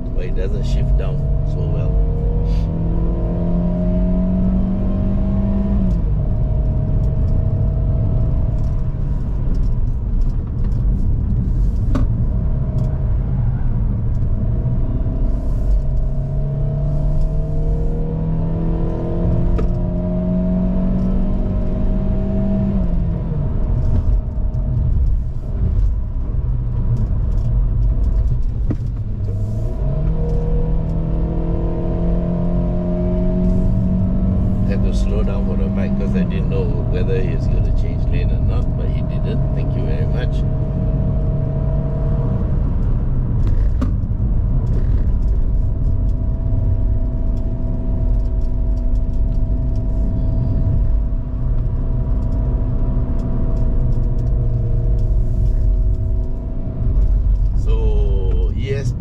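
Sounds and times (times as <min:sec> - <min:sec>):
car engine pulling hard uphill: 0:00.0 - 0:59.0.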